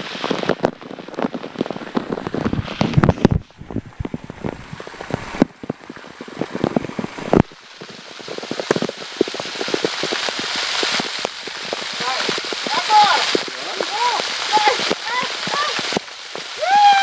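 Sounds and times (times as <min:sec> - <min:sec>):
waterfall pouring and splashing: 0:00.0 - 0:17.0.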